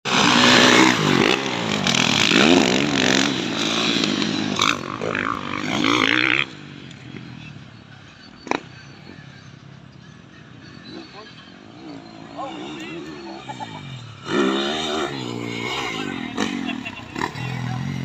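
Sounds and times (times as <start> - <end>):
dirt bike engines revving: 0.1 - 18.0.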